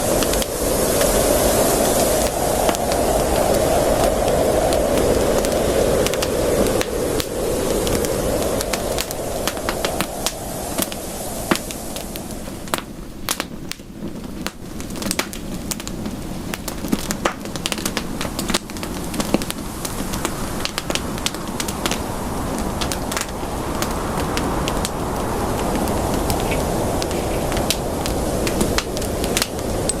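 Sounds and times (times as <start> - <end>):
campfire crackling and popping: 0.0 - 30.0
steady low rush of fire: 0.0 - 30.0.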